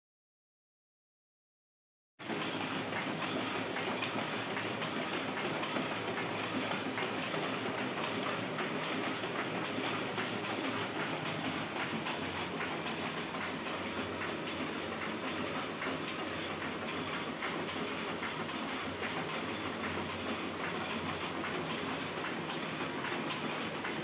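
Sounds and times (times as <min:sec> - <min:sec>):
printing press clattering: 0:02.2 - 0:24.0.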